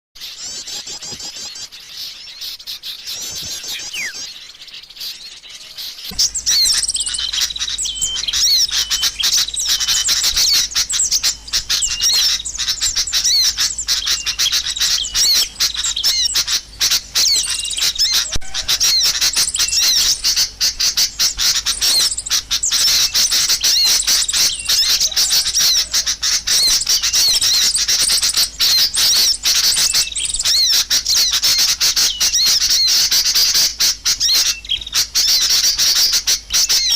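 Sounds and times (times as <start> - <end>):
small birds chirping: 0.2 - 36.9.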